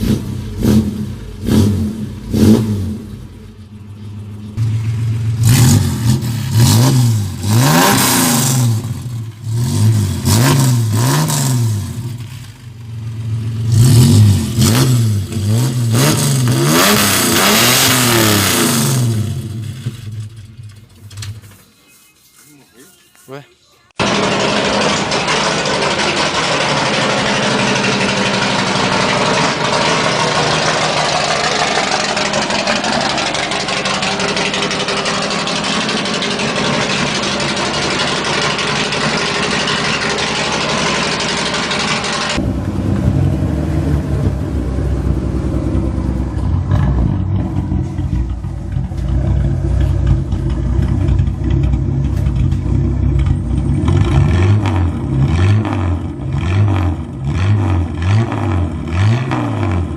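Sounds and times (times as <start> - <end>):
car engine rumbling through exhaust: 0.0 - 21.6, 24.0 - 59.9.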